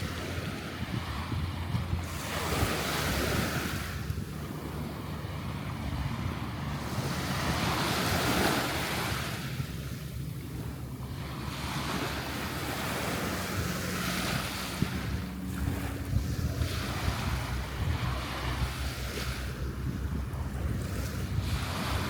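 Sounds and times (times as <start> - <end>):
surf washing up beach: 0.0 - 22.0
wind buffeting microphone: 0.0 - 22.0.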